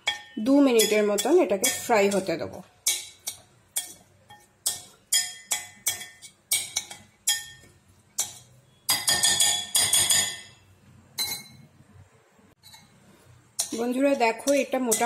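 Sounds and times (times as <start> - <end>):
spoon clinking against glass bowl: 0.0 - 10.6, 11.2 - 11.6, 13.6 - 15.0.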